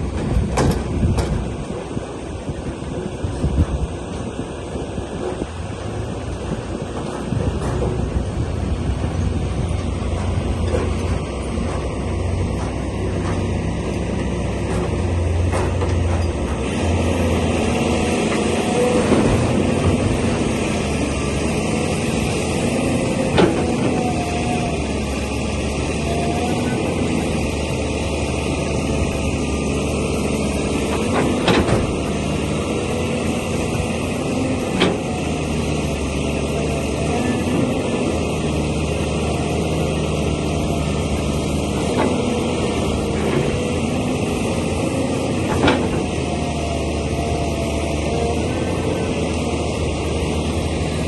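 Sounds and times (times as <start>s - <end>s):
diesel machinery running: 0.0s - 51.0s.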